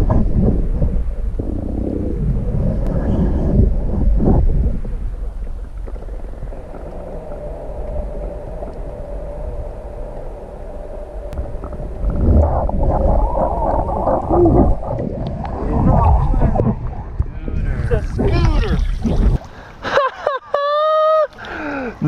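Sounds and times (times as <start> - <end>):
muffled underwater rumble: 0.0 - 19.7
water churning and sloshing: 0.0 - 19.9.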